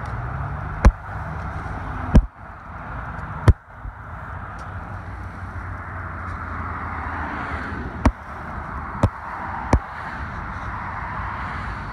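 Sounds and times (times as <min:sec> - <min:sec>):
busy road traffic rumble: 0:00.0 - 0:11.9.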